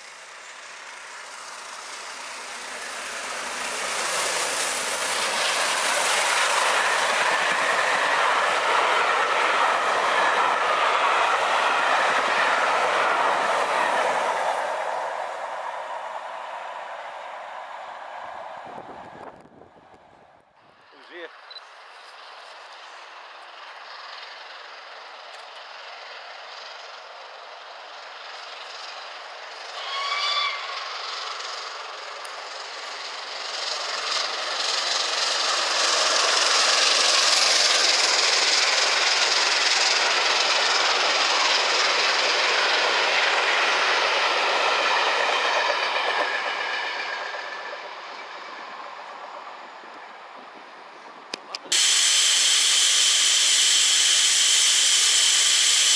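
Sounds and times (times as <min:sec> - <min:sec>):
distant steam locomotive working hard: 0:00.0 - 0:19.9, 0:20.8 - 0:55.9
train coaches rolling on rails: 0:00.0 - 0:20.1, 0:20.8 - 0:55.9.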